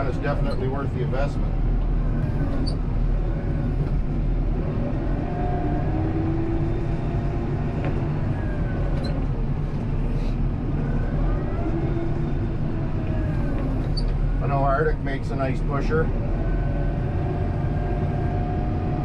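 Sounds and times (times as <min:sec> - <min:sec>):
faint whines: 0:00.0 - 0:19.0
tractor diesel engine running: 0:00.0 - 0:19.0.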